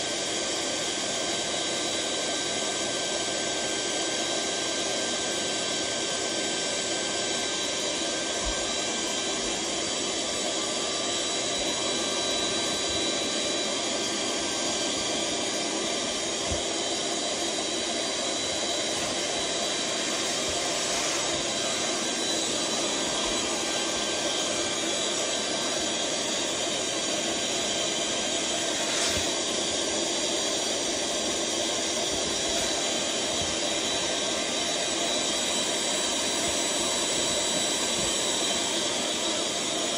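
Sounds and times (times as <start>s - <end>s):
electric blower rushing air: 0.0s - 39.9s.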